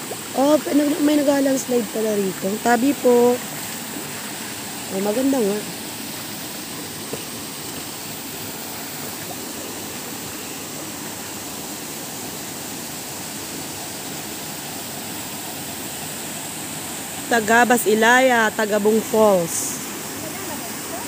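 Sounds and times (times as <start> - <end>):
small waterfall splashing: 0.0 - 21.0.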